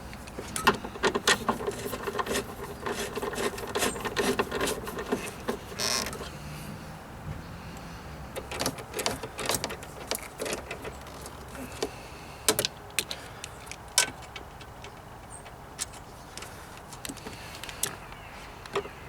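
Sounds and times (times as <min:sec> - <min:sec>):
clicks and knocks of hand tools: 0:00.1 - 0:06.3, 0:08.4 - 0:18.0.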